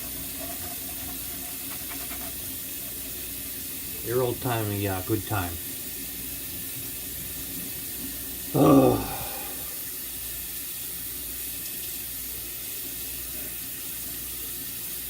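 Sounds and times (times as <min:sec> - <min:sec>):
faucet running into sink: 0:00.0 - 0:08.5, 0:09.1 - 0:15.0.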